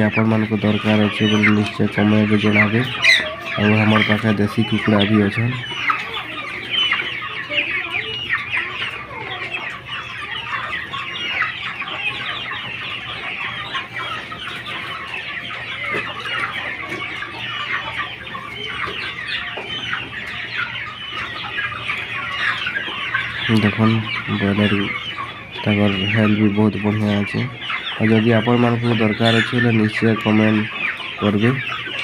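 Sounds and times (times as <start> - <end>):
chickens peeping and chirping: 0.0 - 32.0.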